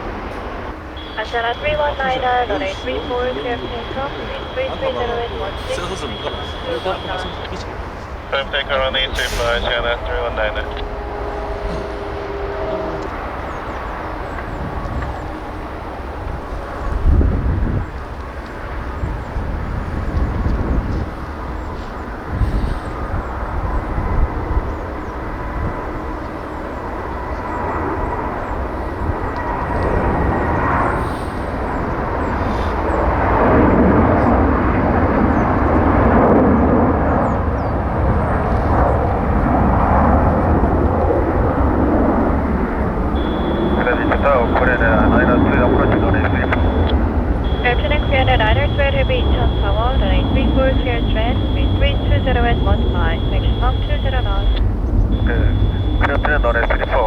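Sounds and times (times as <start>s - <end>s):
wind buffeting microphone: 0.0s - 56.8s
jet engines rumbling: 0.0s - 57.0s.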